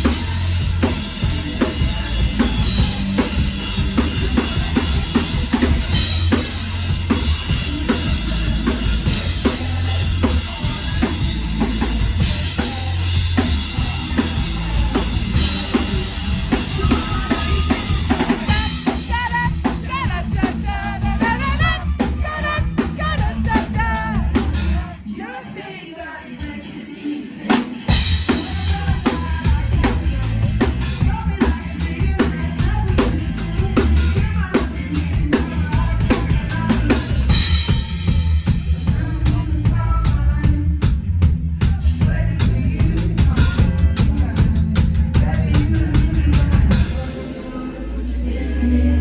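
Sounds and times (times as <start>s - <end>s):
drum kit: 0.0s - 25.0s, 27.5s - 48.1s
bass: 0.0s - 25.4s, 27.8s - 49.0s.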